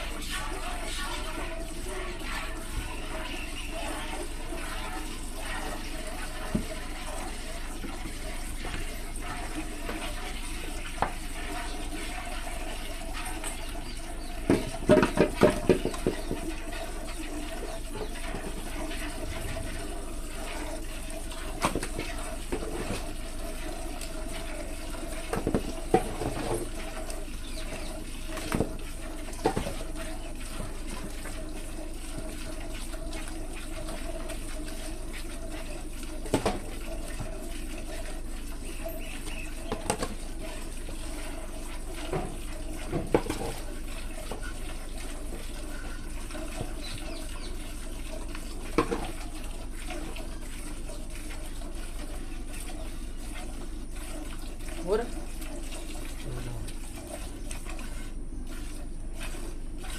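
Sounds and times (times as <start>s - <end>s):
milk streaming into a pail: 0.0s - 59.9s.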